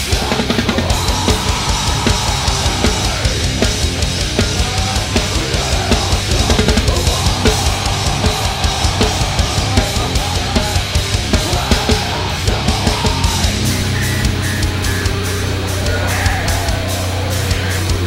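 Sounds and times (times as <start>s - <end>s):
drum kit playing fast metal groove: 0.0s - 18.0s
heavy metal backing track: 0.0s - 18.0s.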